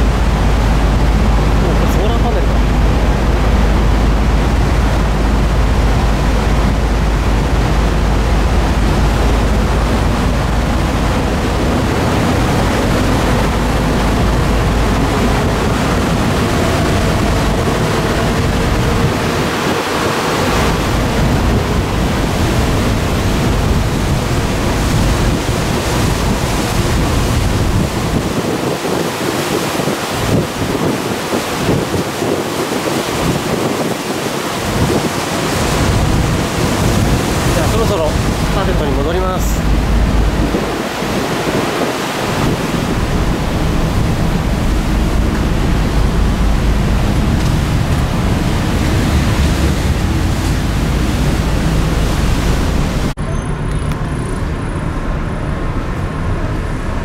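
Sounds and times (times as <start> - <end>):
heavy low rumble: 0.0 - 28.3, 35.8 - 57.0
wind rushing over microphone: 0.0 - 53.2
ship rushing through water: 0.0 - 57.0.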